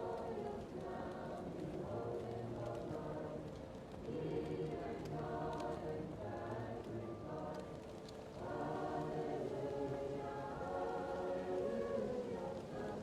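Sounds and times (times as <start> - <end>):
muffled choir singing: 0.0 - 13.0
wood fire crackling: 0.0 - 13.0.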